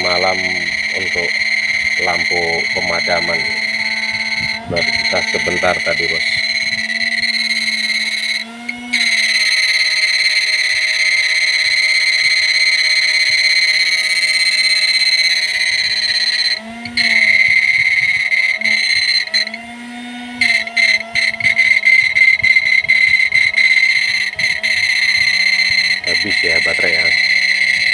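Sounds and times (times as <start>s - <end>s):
inverter high-pitched whine: 0.0s - 27.9s
low hum: 0.0s - 27.9s.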